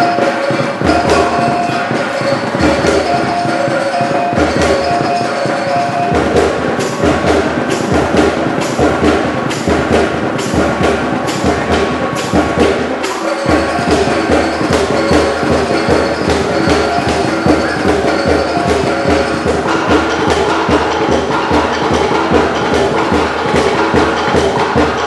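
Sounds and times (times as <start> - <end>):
drums playing a steady beat: 0.0 - 25.0.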